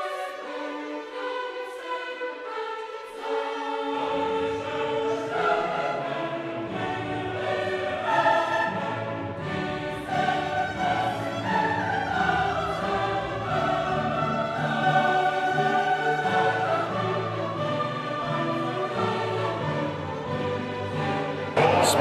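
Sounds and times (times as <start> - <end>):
choral operatic music with orchestra: 0.0 - 22.0.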